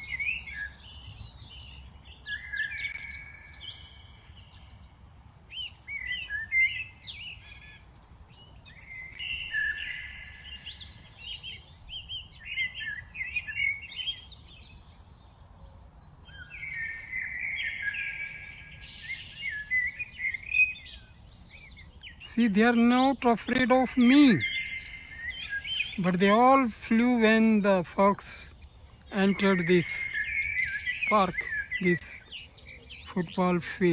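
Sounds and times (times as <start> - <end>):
songbirds chirping and whistling: 0.0 - 33.9.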